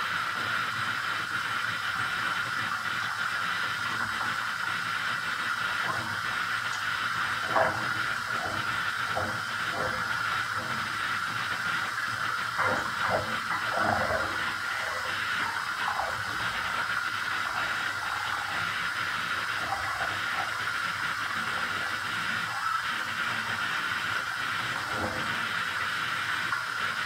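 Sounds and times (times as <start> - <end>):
bath tap running: 0.0 - 27.0
water sloshing and splashing: 2.3 - 25.8.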